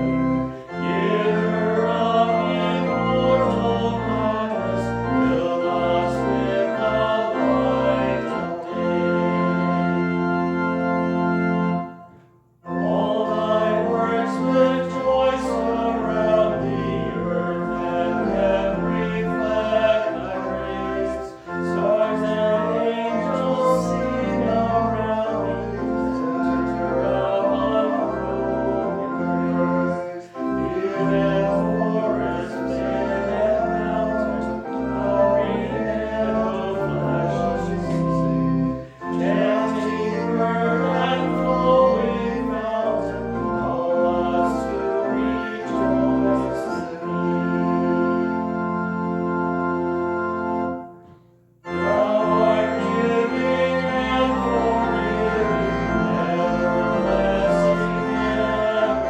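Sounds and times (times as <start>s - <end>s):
church organ chord: 0.0s - 59.0s
voices singing a hymn with organ: 0.0s - 59.0s.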